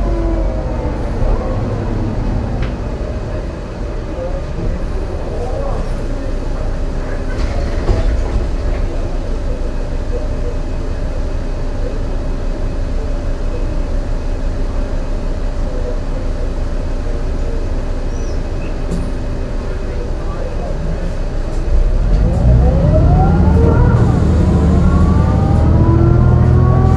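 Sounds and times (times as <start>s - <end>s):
bus engine drone: 0.0s - 26.9s.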